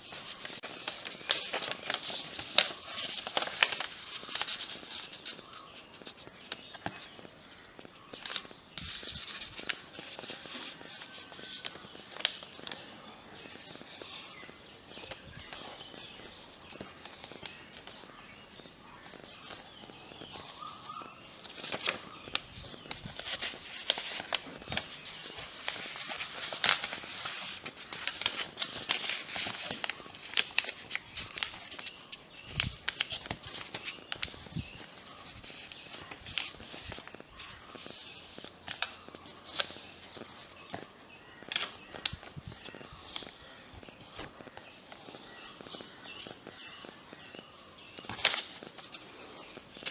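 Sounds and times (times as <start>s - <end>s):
paper rustling and creasing: 0.0s - 18.2s, 19.0s - 49.9s.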